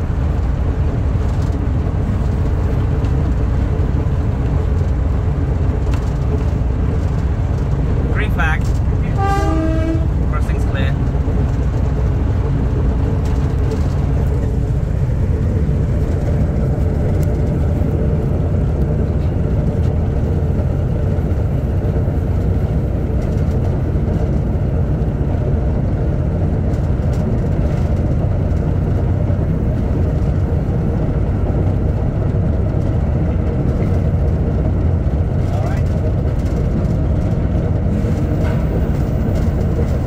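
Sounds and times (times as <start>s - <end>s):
diesel locomotive engine running: 0.0s - 40.0s.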